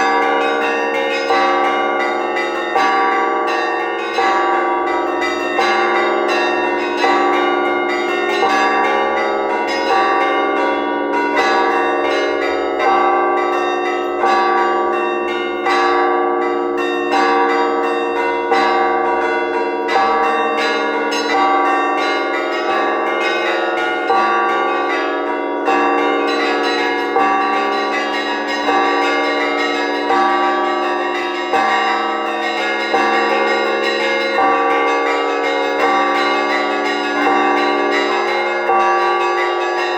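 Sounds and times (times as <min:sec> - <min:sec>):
heavy church bell strokes: 0:00.0 - 0:39.9
small bells chiming: 0:00.0 - 0:39.9.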